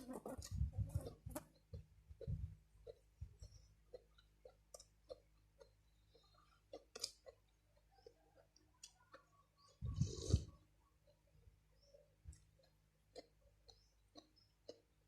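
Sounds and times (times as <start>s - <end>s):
soft eating clicks and taps: 0.4s - 9.9s, 11.9s - 15.0s.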